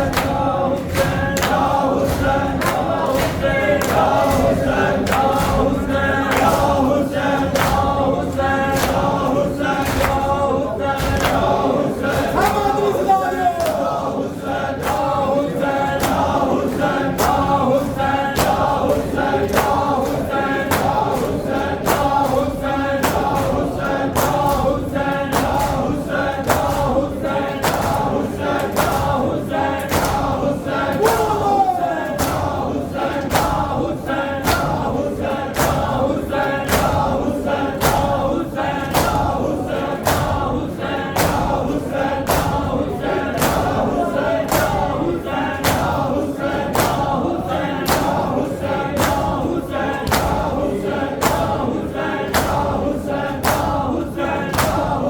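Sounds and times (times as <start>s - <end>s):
chorus chanting a lament: 0.0s - 55.0s
steady beat of sharp hits: 0.0s - 55.0s.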